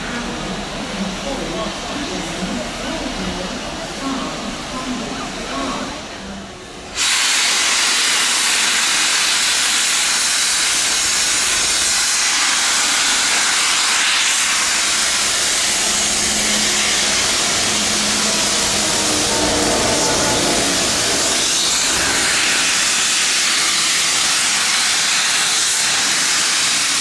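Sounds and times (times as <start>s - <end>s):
diesel locomotive engine hum: 0.0s - 27.0s
steam hissing from locomotive: 0.0s - 27.0s.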